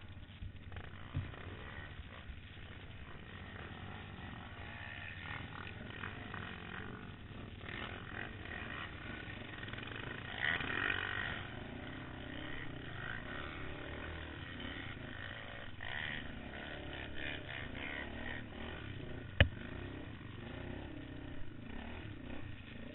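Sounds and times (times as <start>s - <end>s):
quad bike engine revving: 0.0s - 22.9s.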